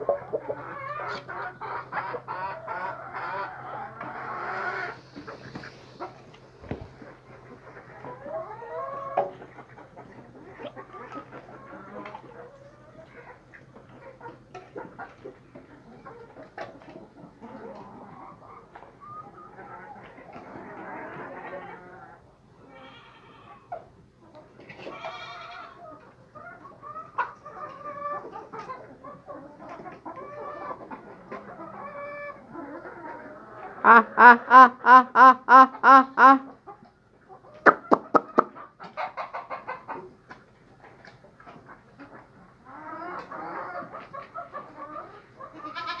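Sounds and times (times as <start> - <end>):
hens clucking: 0.0 - 46.0.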